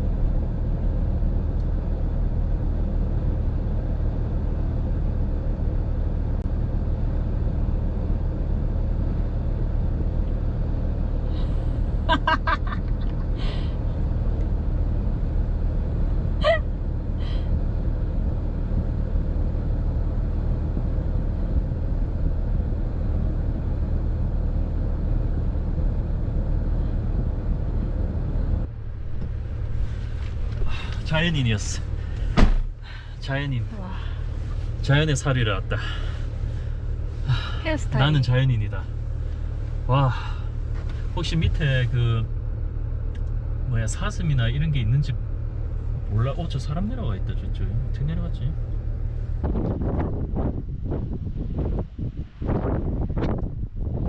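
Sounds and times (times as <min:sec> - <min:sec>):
car rumble from inside: 0:00.0 - 0:54.0.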